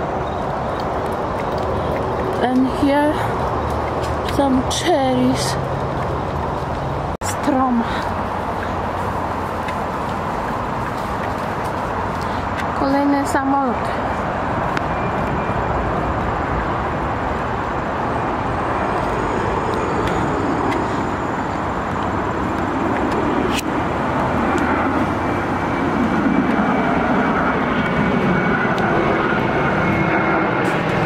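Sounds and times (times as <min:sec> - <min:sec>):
airplane flying overhead: 0:00.0 - 0:31.0.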